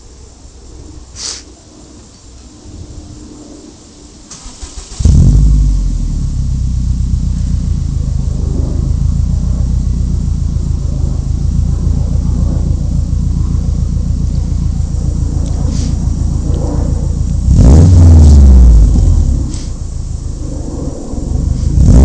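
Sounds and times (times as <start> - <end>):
car engine starting and idling: 4.2 - 22.0.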